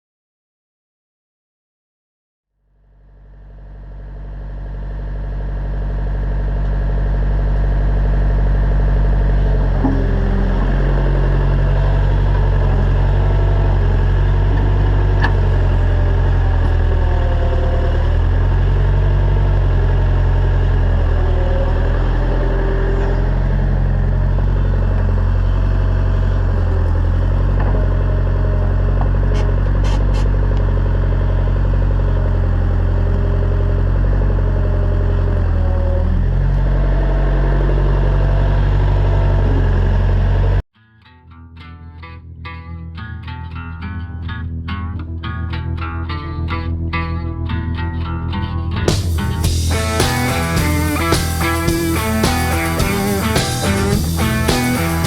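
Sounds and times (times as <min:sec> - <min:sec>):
excavator engine running: 0:03.2 - 0:40.6, 0:44.6 - 0:55.0.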